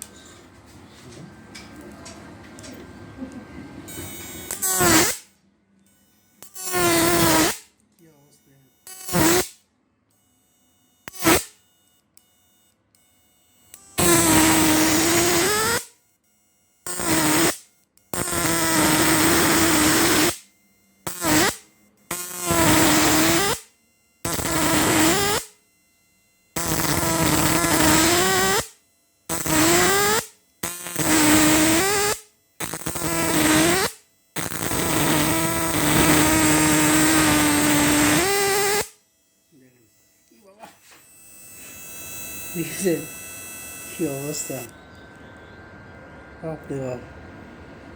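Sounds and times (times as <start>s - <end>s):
inverter buzzing: 0.0s - 47.9s.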